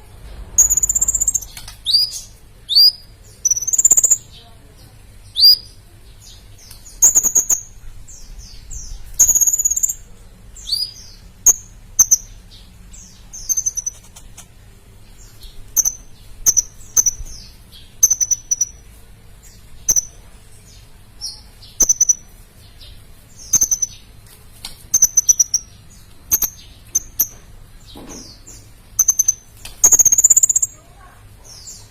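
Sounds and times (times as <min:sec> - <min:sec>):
sunbird chirping: 0:00.0 - 0:31.9.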